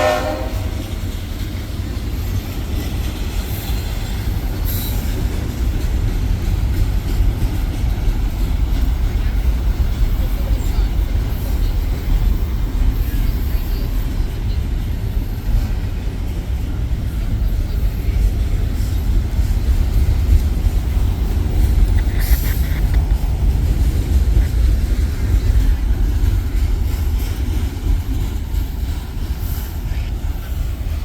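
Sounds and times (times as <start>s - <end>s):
train rumbling on rails: 0.0s - 31.0s.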